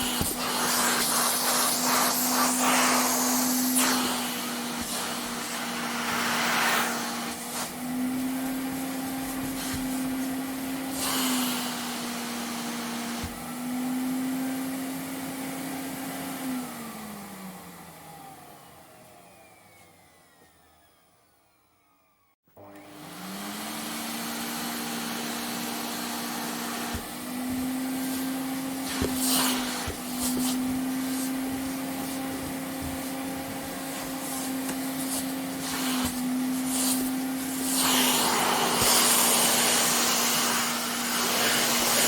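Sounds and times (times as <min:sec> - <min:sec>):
vacuum cleaner running: 0:00.0 - 0:42.0
vacuum motor spinning down: 0:00.0 - 0:42.0.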